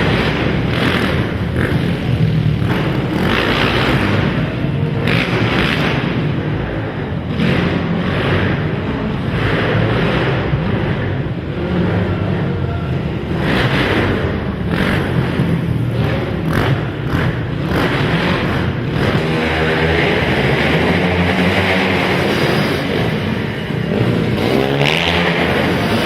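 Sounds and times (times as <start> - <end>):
quad engines revving: 0.0 - 26.0.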